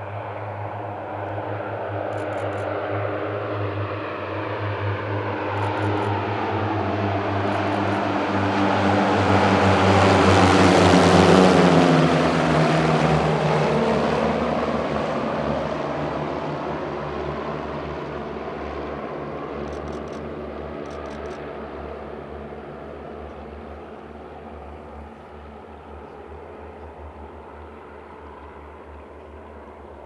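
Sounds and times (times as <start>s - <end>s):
propeller planes flying past: 0.0s - 30.0s.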